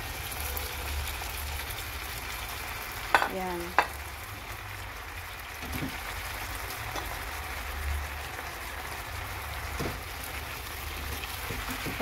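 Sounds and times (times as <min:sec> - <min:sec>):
chicken wings sizzling in frying pan: 0:00.0 - 0:12.0.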